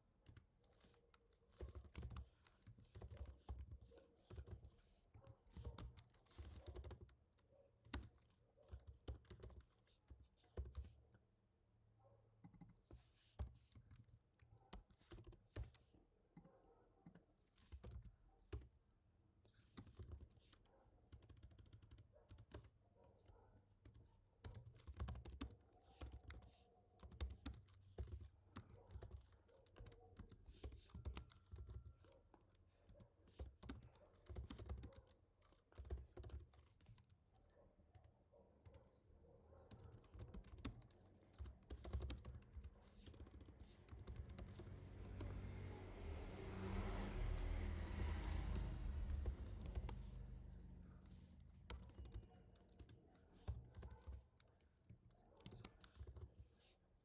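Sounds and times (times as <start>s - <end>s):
typing on a keyboard: 0.0s - 11.2s, 12.4s - 56.7s.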